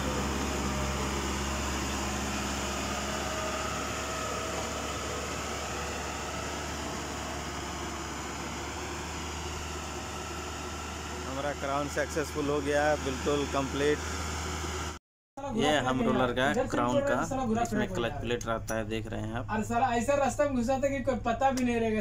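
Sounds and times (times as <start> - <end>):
roller diesel engine running: 0.0 - 21.2.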